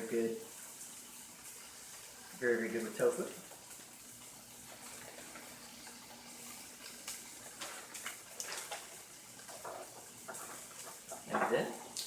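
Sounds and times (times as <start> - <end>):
tofu sizzling in a frying pan: 0.0 - 12.0.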